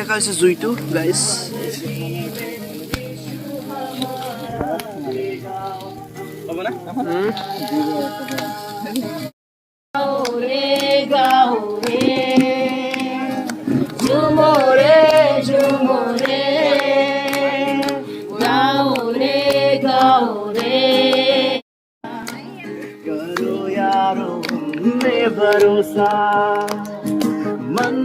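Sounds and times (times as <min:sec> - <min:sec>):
voices singing long notes: 0:00.0 - 0:09.2, 0:10.0 - 0:28.0.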